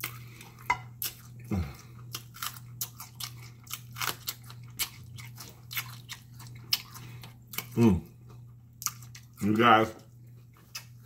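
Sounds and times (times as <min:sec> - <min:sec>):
faint low hum: 0:00.0 - 0:11.0
wet chewing and mouth smacks: 0:00.0 - 0:11.0.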